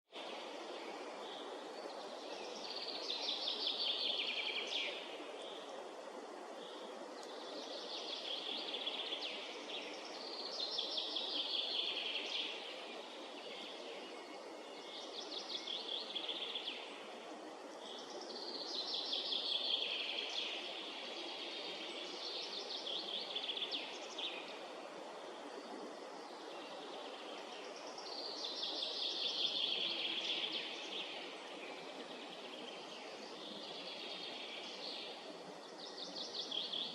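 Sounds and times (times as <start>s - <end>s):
low background hiss of woods: 0.1s - 36.9s
songbird singing: 0.1s - 36.9s.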